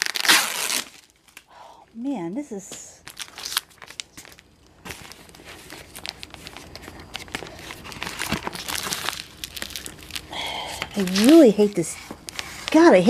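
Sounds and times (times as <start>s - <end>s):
cardboard packaging tearing: 0.0s - 1.4s, 3.0s - 13.0s.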